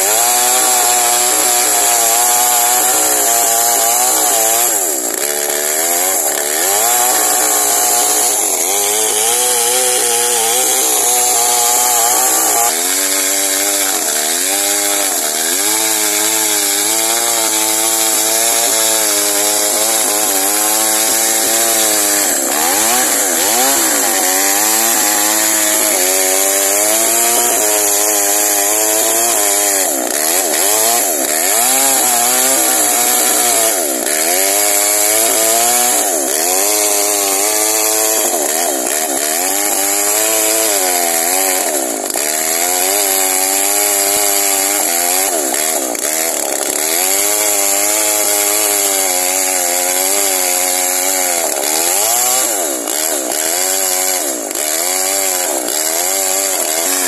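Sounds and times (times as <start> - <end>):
chainsaw ripping a log: 0.0 - 57.0.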